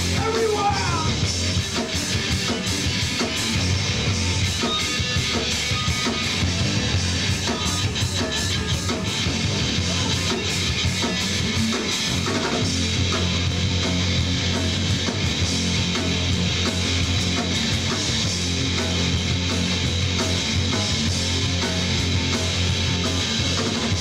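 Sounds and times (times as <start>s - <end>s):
distorted electric guitar: 0.0s - 24.0s
drum kit beat: 0.0s - 24.0s.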